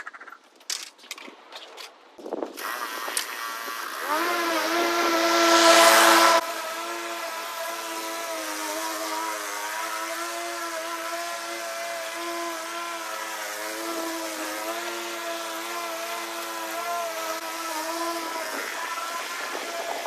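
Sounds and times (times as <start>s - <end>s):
small gasoline engine running: 2.6s - 20.0s.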